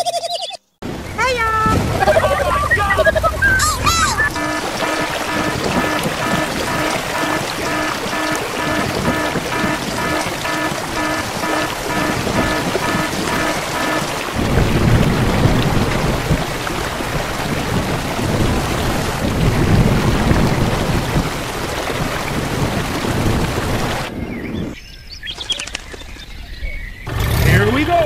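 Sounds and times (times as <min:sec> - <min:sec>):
heavy rain: 0:00.8 - 0:24.2
rolling thunder: 0:01.6 - 0:24.2.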